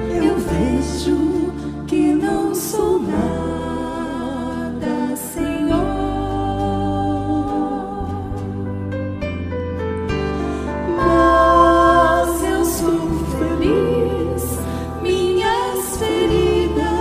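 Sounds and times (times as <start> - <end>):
woman singing: 0.0 - 8.6, 10.9 - 17.0
bass: 0.0 - 17.0
keyboard chords: 0.0 - 17.0.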